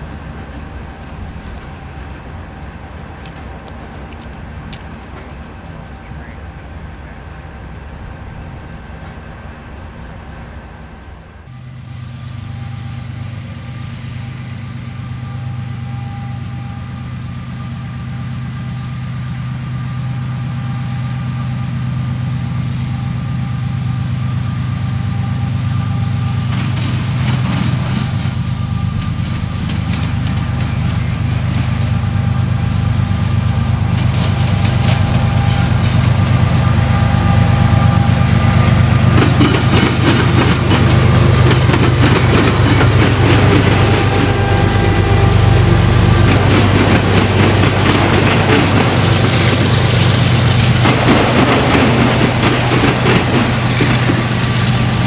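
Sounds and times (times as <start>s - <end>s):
locomotive engine drone: 0.0s - 55.0s
wheels rattling and squealing on rails: 0.0s - 55.0s.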